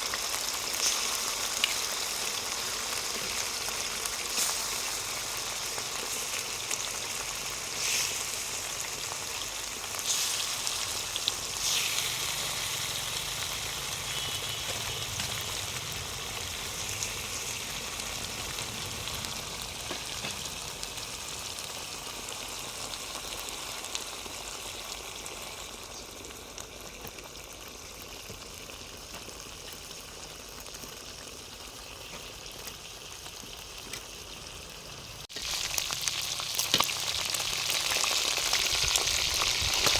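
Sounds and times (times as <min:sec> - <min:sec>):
oil crackles: 0:00.0 - 0:34.2, 0:35.3 - 0:39.9
food sizzling in hot oil: 0:00.0 - 0:39.9.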